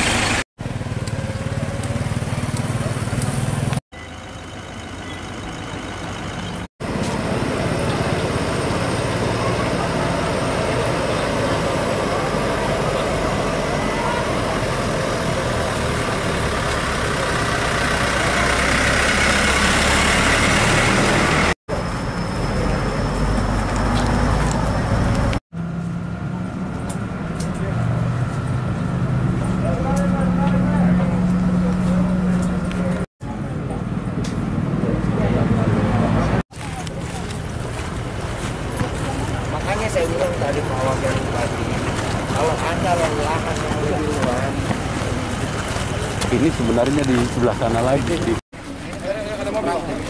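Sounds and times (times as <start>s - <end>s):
bus engine running: 0.0s - 50.0s
traffic engines idling: 0.0s - 50.0s.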